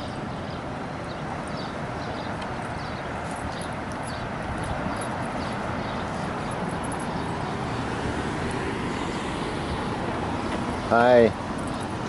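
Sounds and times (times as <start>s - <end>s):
street traffic hiss: 0.0s - 12.0s.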